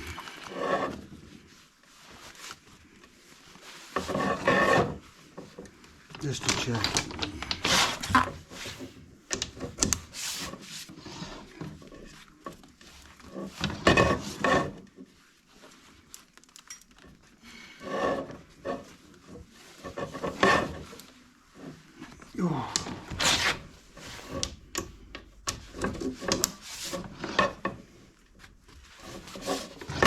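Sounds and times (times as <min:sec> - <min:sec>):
brush scraping inside chimney: 0:00.0 - 0:16.1, 0:17.4 - 0:30.0.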